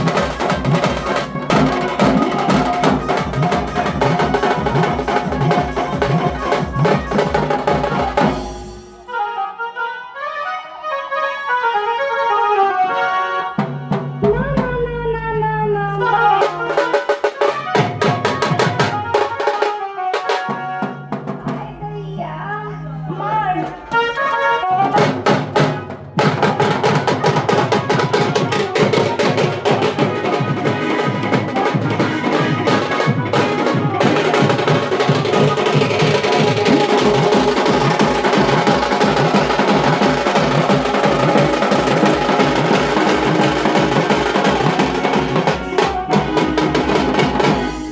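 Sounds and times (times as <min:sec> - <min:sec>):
drum band playing fast rhythm: 0:00.0 - 0:09.1, 0:13.6 - 0:14.8, 0:16.3 - 0:21.6, 0:24.8 - 0:47.9.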